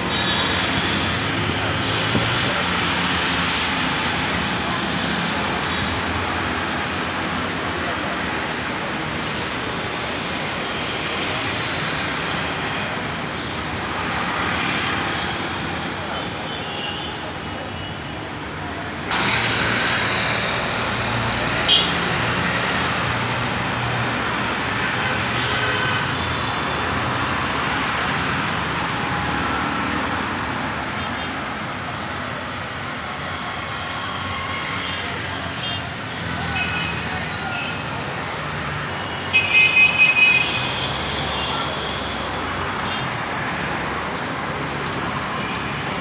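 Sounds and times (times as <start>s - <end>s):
city street traffic hum: 0.0s - 46.0s.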